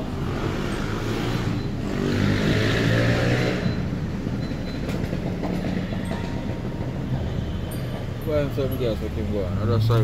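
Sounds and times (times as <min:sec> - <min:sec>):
road traffic passing: 0:00.0 - 0:10.0
vehicle engine and tyres passing: 0:00.0 - 0:10.0.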